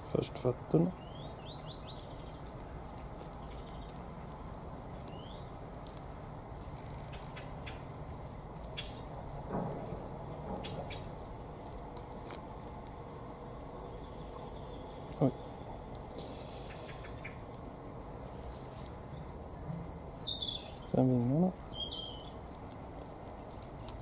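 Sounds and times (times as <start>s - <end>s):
songbirds trilling and chirping: 0.0s - 24.0s.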